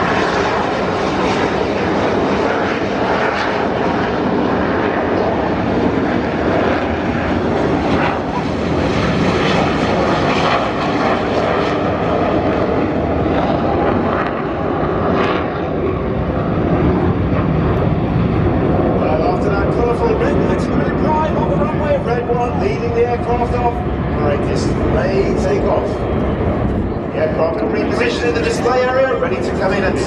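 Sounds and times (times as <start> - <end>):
jets taking off: 0.0 - 30.0.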